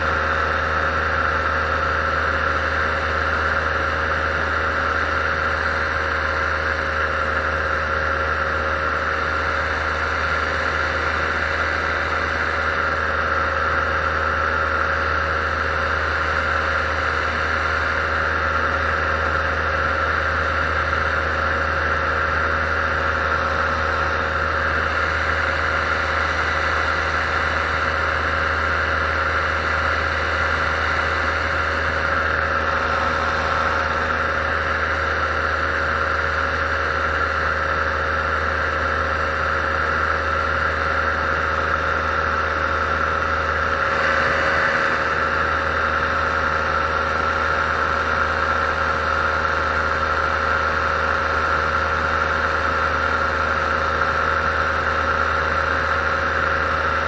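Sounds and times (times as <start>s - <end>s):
paramotor engine drone: 0.0s - 57.0s.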